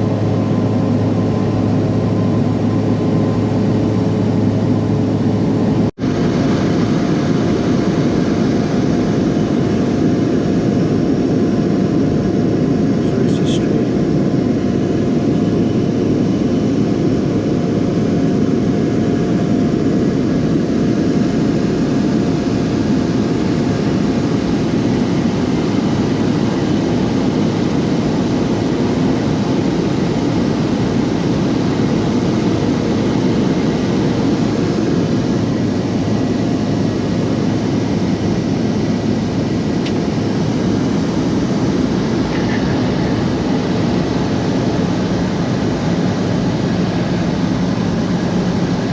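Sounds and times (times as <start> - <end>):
small aircraft engine and propeller drone: 0.0 - 48.9.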